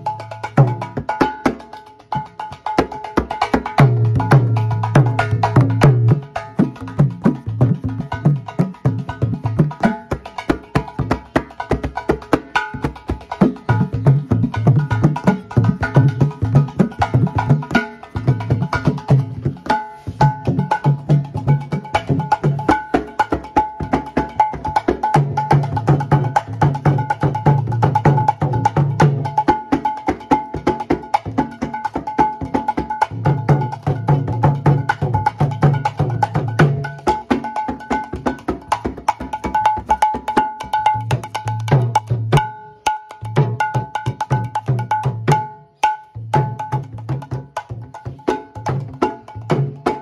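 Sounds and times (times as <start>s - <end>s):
hand drum played fast: 0.0s - 50.0s.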